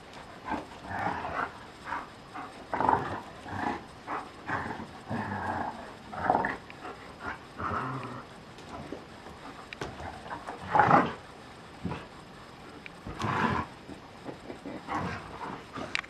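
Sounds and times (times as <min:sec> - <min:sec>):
dogs growling and grunting: 0:00.1 - 0:12.2, 0:13.0 - 0:16.0.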